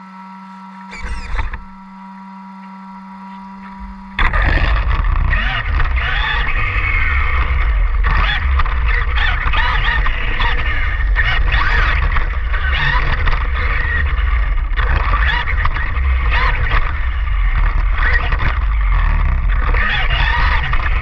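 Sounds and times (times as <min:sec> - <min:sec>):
rc car motor whine: 0:00.0 - 0:21.0
wind rumble on microphone: 0:03.5 - 0:21.0.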